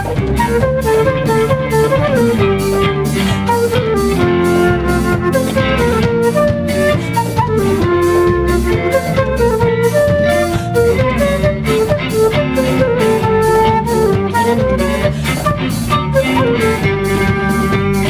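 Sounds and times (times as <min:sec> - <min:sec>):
bass guitar: 0:00.0 - 0:18.0
drum kit beat: 0:00.0 - 0:18.0
electric guitar: 0:00.0 - 0:18.0
flute melody: 0:00.0 - 0:18.0.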